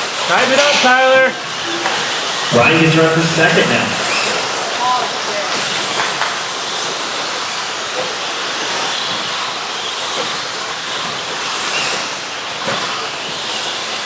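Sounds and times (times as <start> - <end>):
electric model trucks racing: 0.0 - 14.0.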